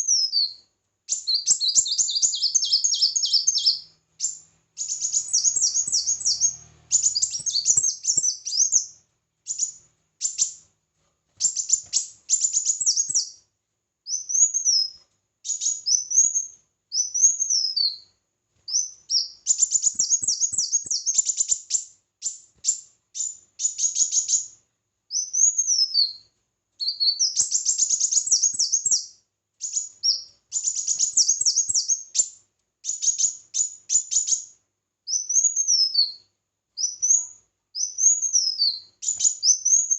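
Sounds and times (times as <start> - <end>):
sunbird trilled chirps: 0.0 - 10.6, 11.4 - 13.4, 14.1 - 18.0, 18.7 - 24.5, 25.1 - 34.5, 35.1 - 36.2, 36.8 - 39.9.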